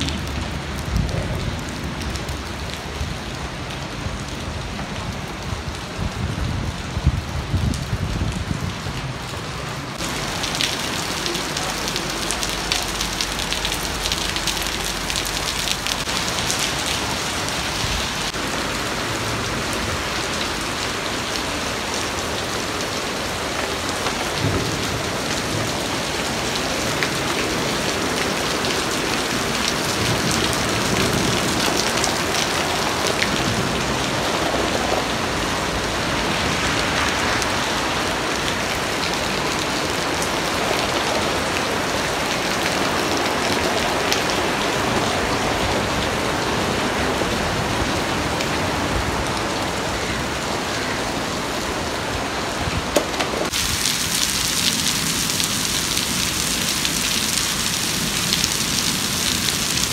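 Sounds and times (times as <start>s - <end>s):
rain on concrete and grass: 0.0s - 59.9s.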